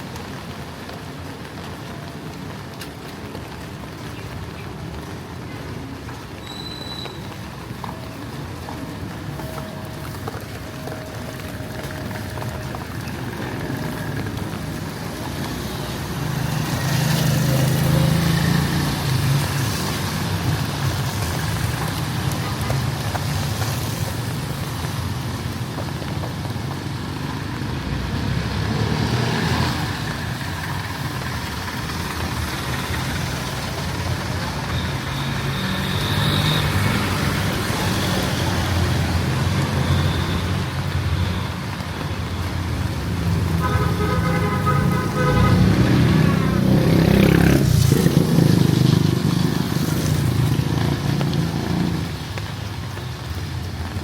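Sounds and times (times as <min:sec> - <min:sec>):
rain hiss: 0:00.0 - 0:54.0
vehicles passing close by: 0:00.0 - 0:54.0.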